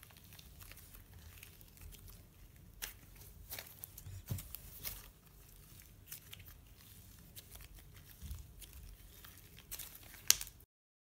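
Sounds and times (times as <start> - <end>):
slime sticky crackles: 0.0 - 10.7.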